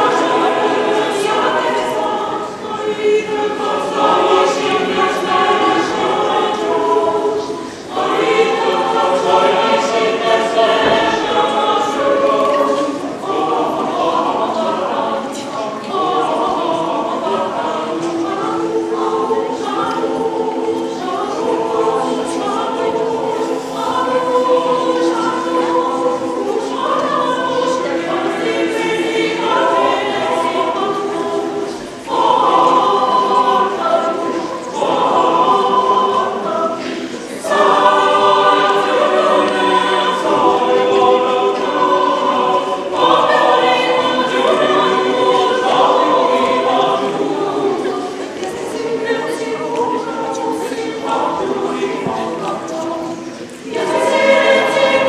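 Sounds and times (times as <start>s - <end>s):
mixed choir singing chords: 0.0s - 55.0s.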